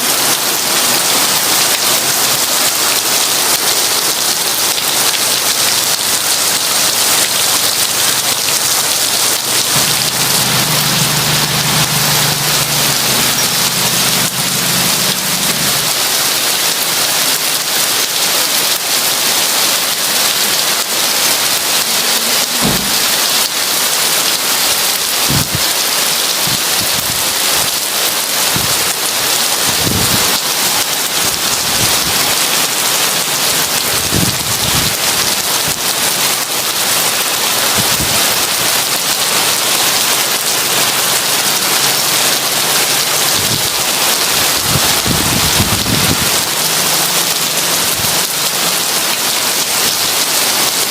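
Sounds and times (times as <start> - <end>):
heavy rain on window and roof: 0.0 - 50.9.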